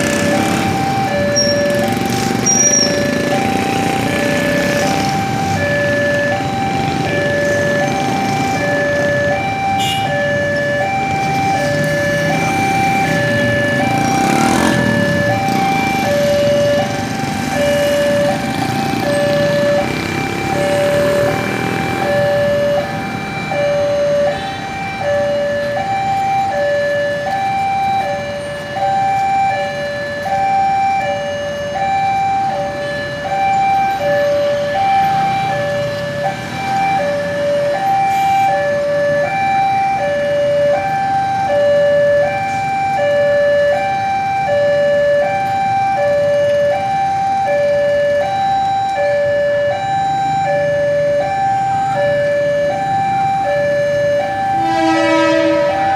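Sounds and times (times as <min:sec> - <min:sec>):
level crossing two-tone alarm: 0:00.0 - 0:55.9.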